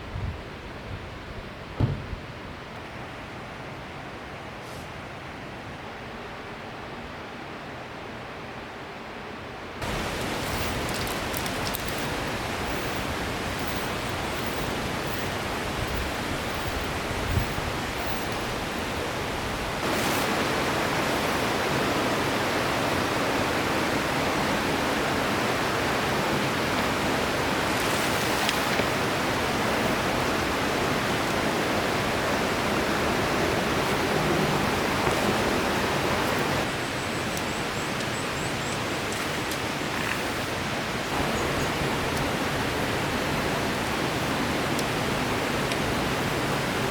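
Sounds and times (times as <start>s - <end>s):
river rushing: 2.3s - 46.9s.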